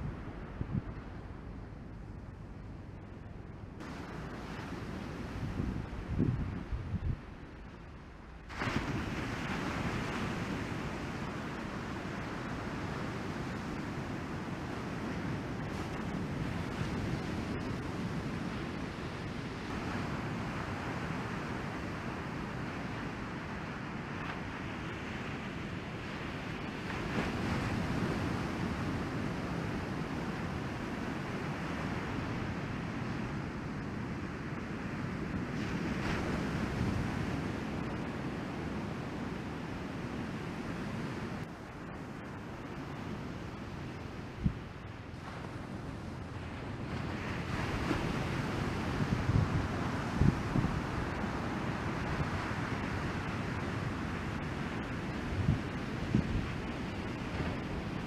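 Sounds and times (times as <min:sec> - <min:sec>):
wind on microphone: 0:00.0 - 0:02.4, 0:03.8 - 0:58.0
ocean surf breaking: 0:08.4 - 0:58.0.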